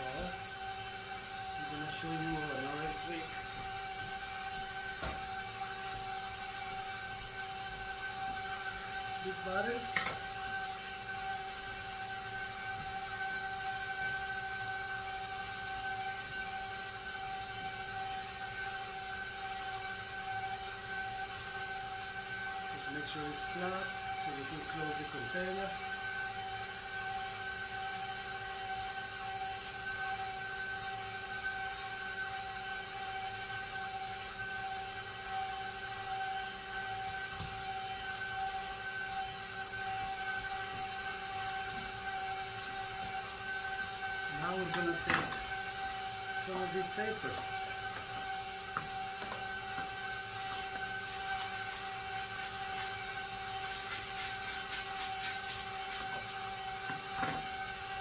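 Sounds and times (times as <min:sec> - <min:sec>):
high-pitched appliance whine: 0:00.0 - 0:58.0
steady mechanical hum: 0:00.0 - 0:58.0.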